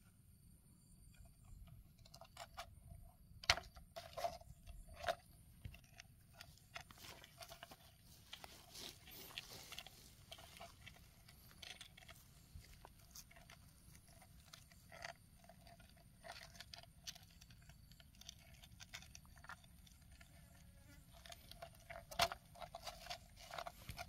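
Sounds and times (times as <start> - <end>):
digging tool scraping soil: 3.9 - 24.0.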